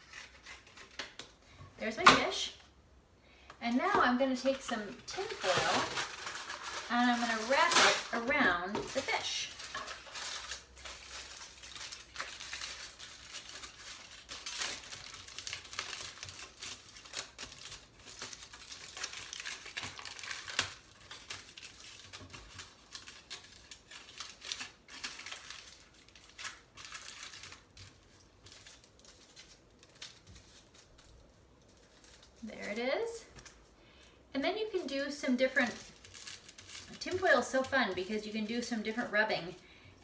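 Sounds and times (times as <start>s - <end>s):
tin foil crinkling: 0.0s - 2.6s, 3.4s - 40.0s.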